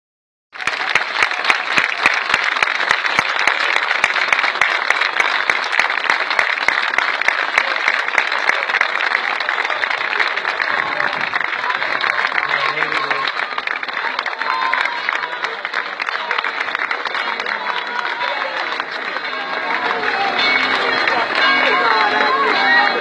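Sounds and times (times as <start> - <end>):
crowd applauding: 0.6 - 23.0.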